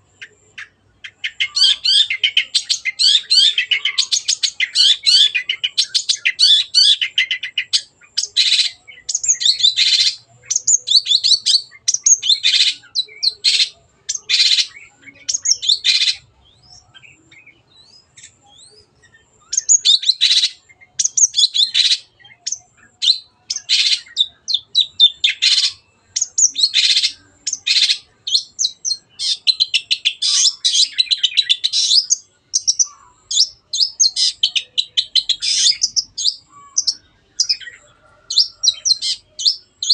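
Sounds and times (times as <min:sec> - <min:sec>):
bird singing sharp notes and trills: 0:00.0 - 0:39.9.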